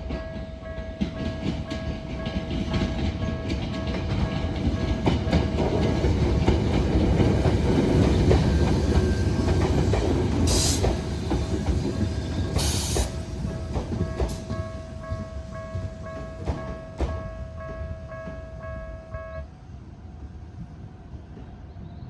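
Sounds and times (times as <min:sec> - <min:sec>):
train wheels clattering on rails: 0:00.0 - 0:19.1
crossing warning bells ringing: 0:00.0 - 0:19.6.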